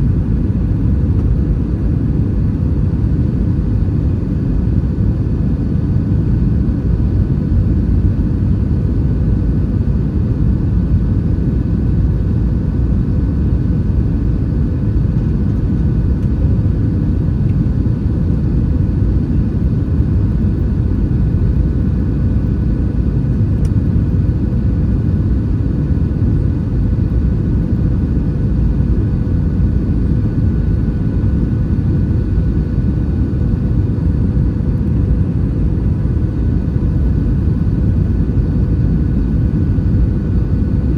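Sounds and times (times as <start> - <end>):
airflow over fuselage: 0.0 - 40.9
faint steady hums: 0.0 - 40.9
jet engines low rumble: 0.0 - 40.9.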